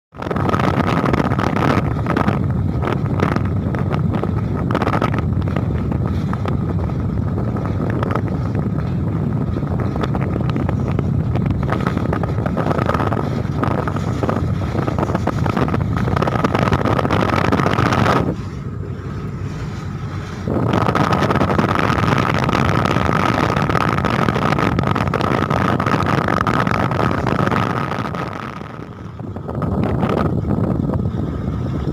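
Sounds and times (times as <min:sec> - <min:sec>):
engine whine: 0:00.1 - 0:31.9
wind buffeting microphone: 0:00.1 - 0:31.9
ship engines rumbling: 0:00.2 - 0:31.9.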